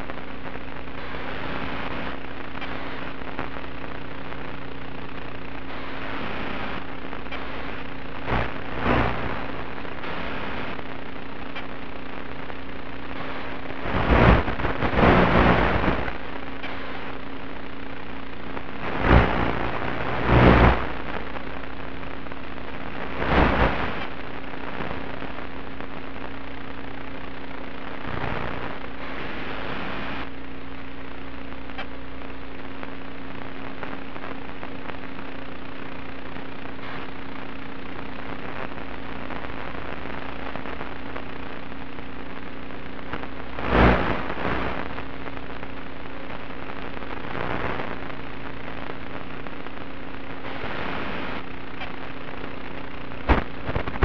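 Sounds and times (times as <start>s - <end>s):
faint hum: 0.0s - 54.0s
radio static hiss: 0.0s - 54.0s.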